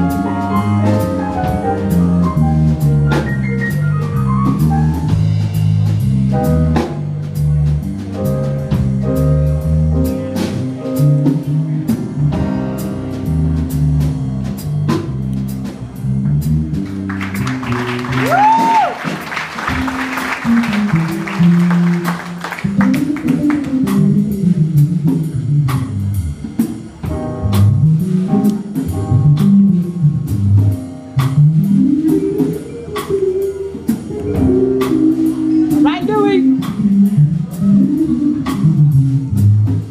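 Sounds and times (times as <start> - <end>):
keyboard: 0.0 - 18.4, 19.4 - 39.9
low bass notes bending: 0.0 - 18.9, 19.7 - 39.9
drum kit: 0.0 - 39.9
live band playing: 0.0 - 39.9.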